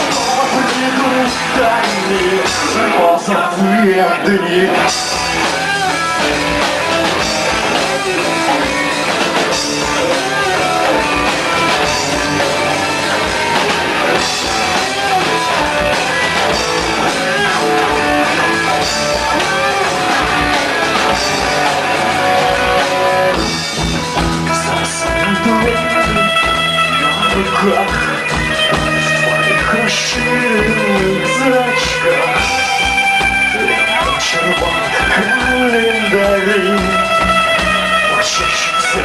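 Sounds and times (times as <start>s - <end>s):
drum kit: 0.0s - 39.0s
electric guitar melody: 0.0s - 39.0s.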